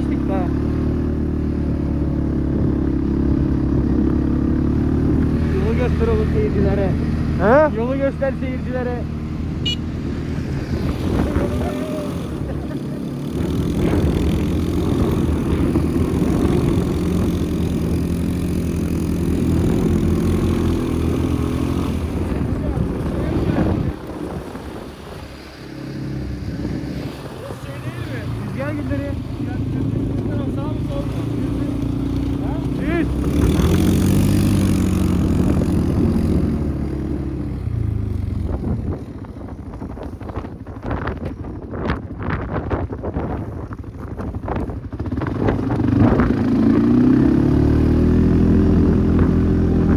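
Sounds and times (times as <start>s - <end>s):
quad bike engine running: 0.0s - 49.9s
wind buffeting microphone: 0.2s - 49.9s.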